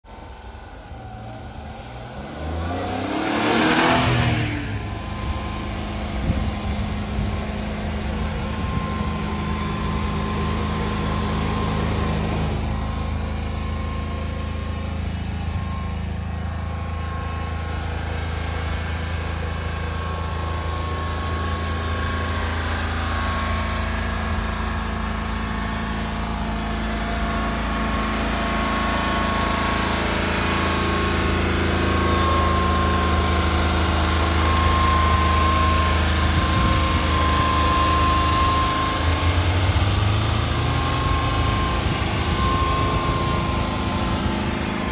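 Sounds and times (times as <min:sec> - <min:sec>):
small truck engine revving and idling: 0:00.0 - 0:44.9.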